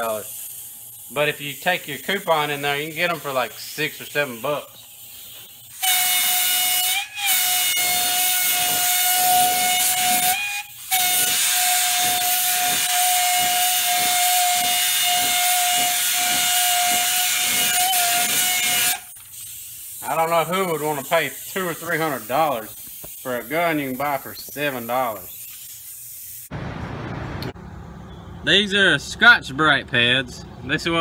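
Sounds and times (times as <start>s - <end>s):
spray gun air hiss with whistle: 0.0s - 26.5s.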